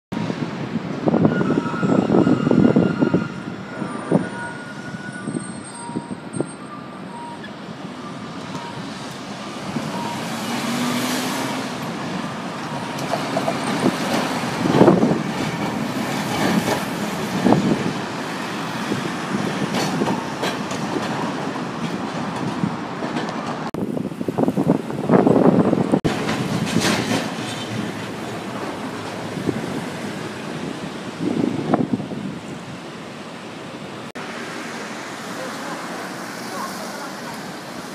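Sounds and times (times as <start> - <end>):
streetcar rolling over tram tracks: 0.1 - 37.9
vehicles passing: 2.0 - 37.9.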